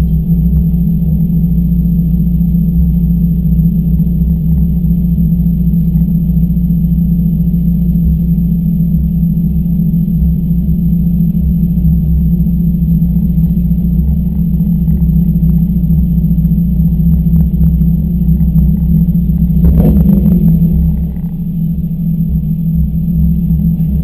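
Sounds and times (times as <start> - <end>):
race car engine idling: 0.0 - 24.0.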